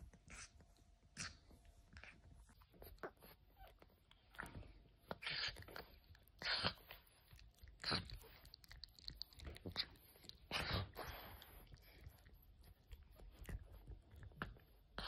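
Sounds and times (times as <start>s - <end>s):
puppy chewing a toy: 1.2s - 15.0s.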